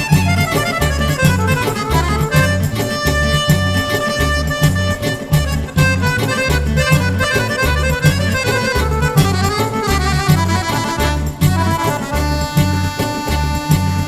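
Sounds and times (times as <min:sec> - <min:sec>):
accordion-led folk band music: 0:00.0 - 0:14.0.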